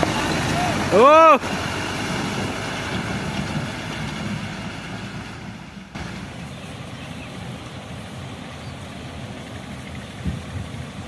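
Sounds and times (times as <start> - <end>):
construction machinery engine running: 0.0 - 11.0.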